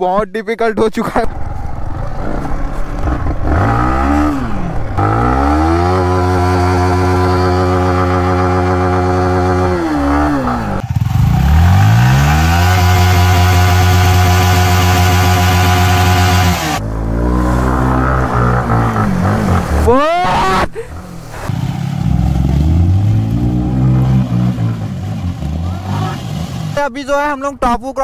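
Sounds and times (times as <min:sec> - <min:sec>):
off-road vehicle engine revving: 0:01.1 - 0:26.9.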